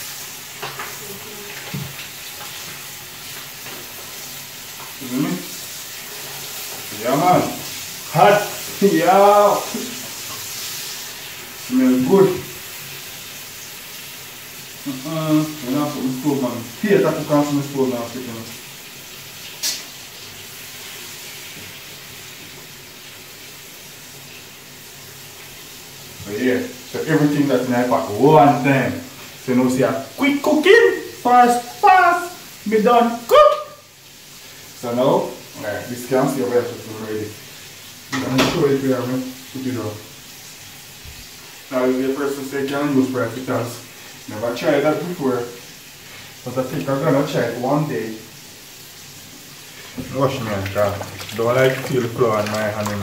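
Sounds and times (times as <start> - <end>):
chicken sizzling in hot oil: 0.0 - 53.0.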